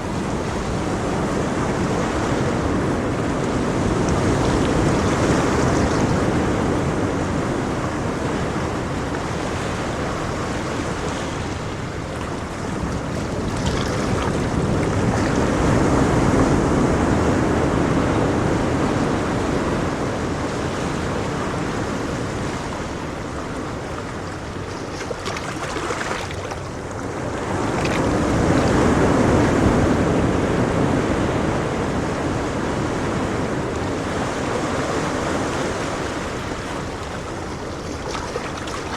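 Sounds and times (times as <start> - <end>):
ocean waves on shore: 0.0 - 38.9.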